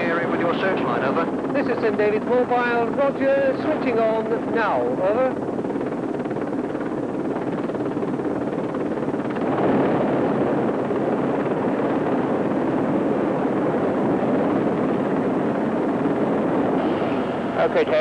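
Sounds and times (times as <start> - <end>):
helicopter hovering: 0.0 - 18.0.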